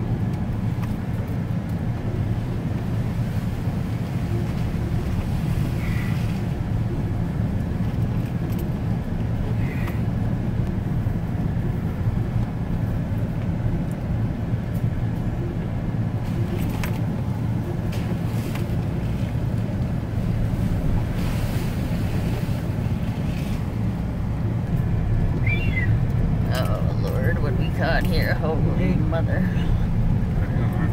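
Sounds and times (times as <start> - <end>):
truck engine and road rumble: 0.0 - 30.9.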